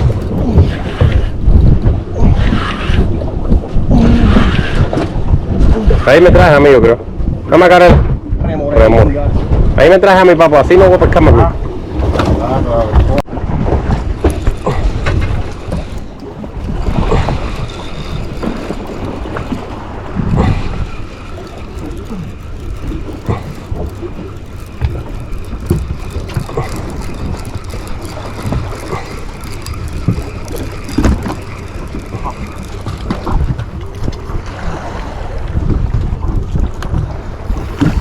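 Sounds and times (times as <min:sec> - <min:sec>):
boat rumbling on water: 0:00.0 - 0:38.0
wind buffeting microphone: 0:00.0 - 0:38.0.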